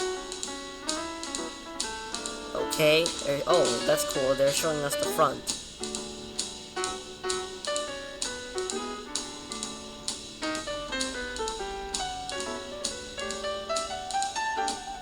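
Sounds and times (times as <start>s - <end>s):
light jazz music: 0.0s - 15.0s.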